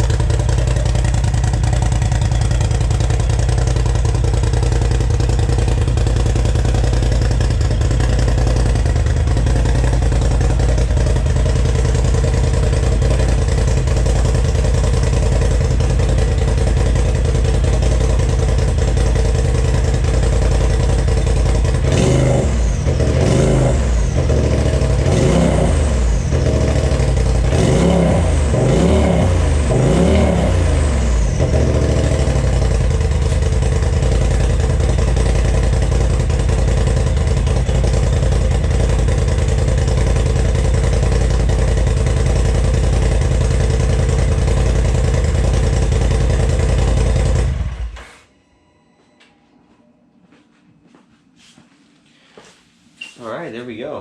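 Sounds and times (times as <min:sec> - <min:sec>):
off-road vehicle engine idling and revving: 0:00.0 - 0:48.0.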